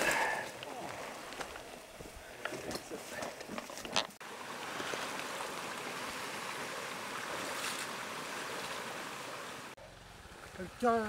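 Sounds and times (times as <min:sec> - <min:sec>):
running water rushing: 0:00.0 - 0:09.8.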